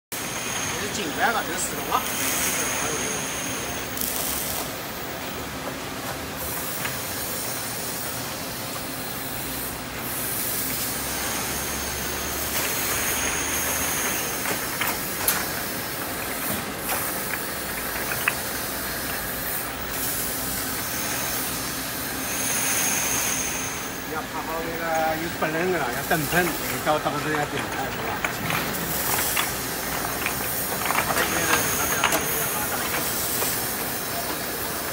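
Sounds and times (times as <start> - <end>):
bottle washing machine humming: 0.1 - 34.9.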